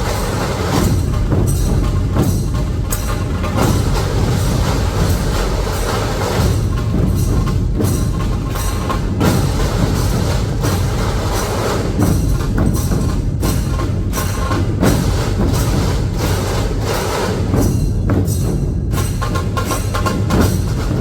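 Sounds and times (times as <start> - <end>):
drum ensemble playing: 0.0 - 21.0.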